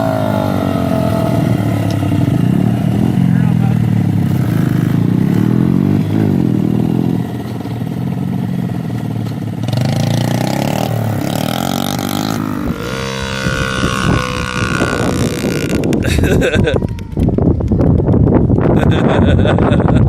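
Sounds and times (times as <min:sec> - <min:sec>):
dirt bike engine revving: 0:00.0 - 0:16.5.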